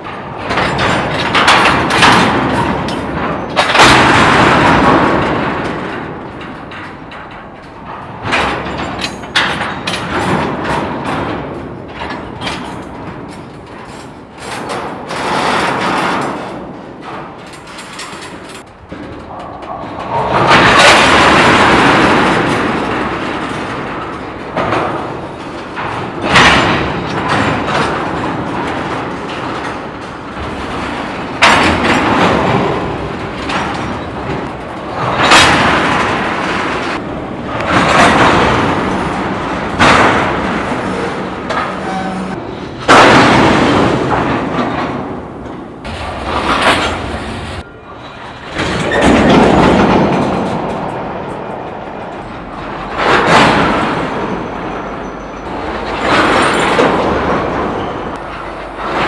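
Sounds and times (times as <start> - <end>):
train couplers banging: 0.0 - 59.0
train rumble and wheel noise: 0.0 - 59.0.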